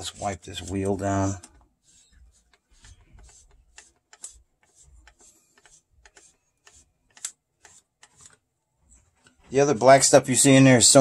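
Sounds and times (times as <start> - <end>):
paper towel rubbing plastic wheel: 0.0 - 9.7.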